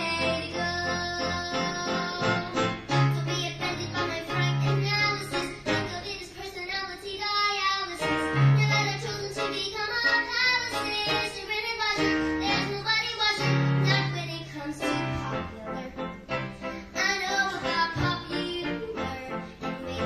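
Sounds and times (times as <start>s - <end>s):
young woman singing: 0.0s - 20.0s.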